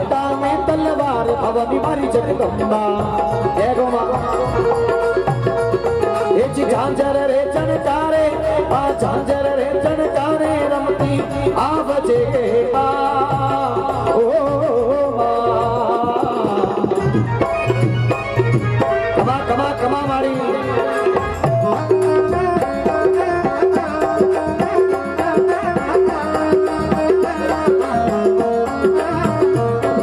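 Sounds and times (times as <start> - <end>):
fast hand drumming: 0.0 - 30.0
keyboard and harmonium melody: 0.0 - 30.0.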